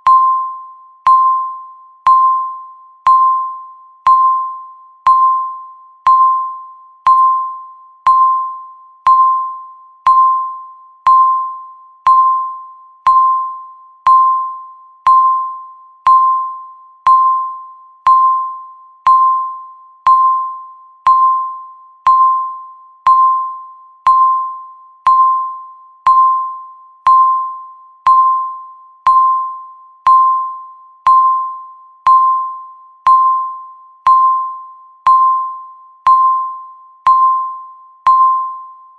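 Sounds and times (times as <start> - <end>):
timer electronic beeps: 0.0 - 38.9.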